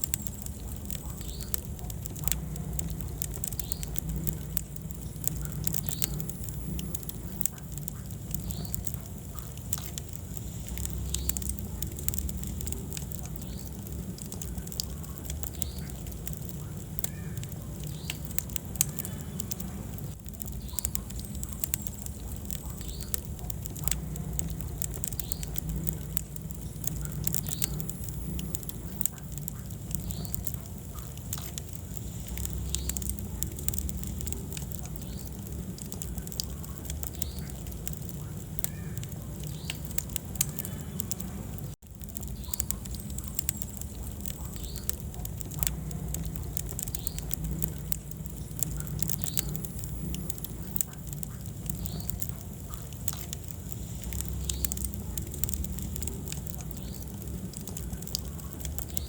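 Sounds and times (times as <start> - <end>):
fire rumbling: 0.0 - 59.0
wood crackling and popping: 0.0 - 59.0.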